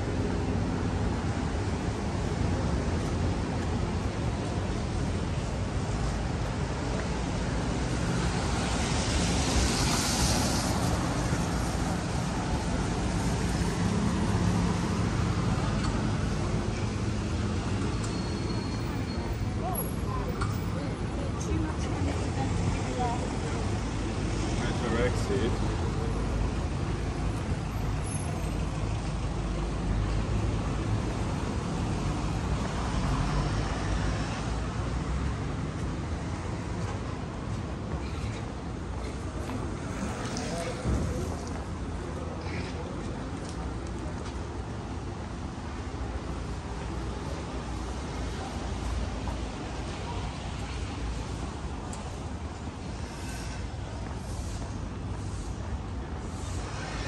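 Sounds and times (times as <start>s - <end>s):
low rumble of traffic engines: 0.0s - 57.0s
traffic hiss: 0.0s - 57.0s.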